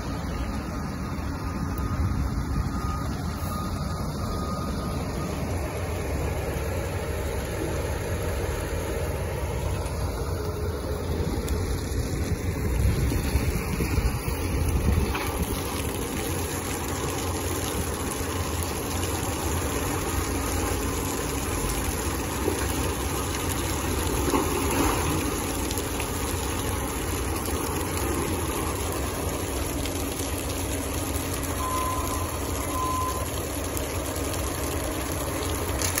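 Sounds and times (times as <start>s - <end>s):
diesel engine running steadily: 0.0s - 36.0s.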